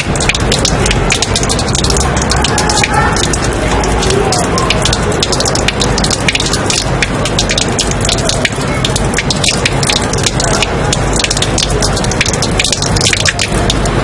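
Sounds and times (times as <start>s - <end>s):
rain on a hard surface: 0.0s - 14.0s.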